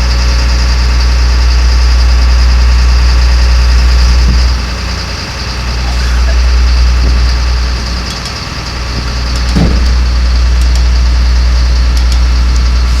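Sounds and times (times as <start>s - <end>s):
diesel truck idling: 0.0s - 13.0s.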